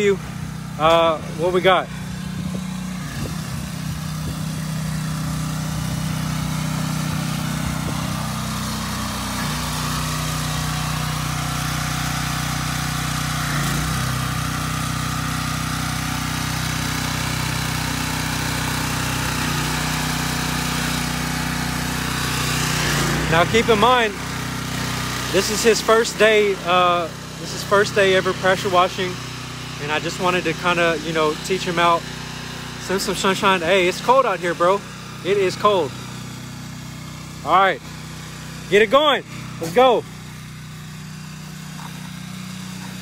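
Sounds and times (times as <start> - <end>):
pressure washer engine running: 0.0 - 43.0.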